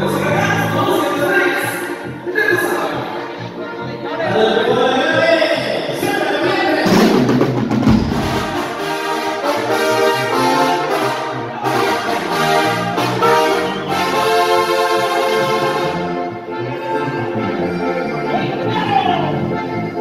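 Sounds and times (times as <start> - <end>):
brass band music: 0.0 - 20.0.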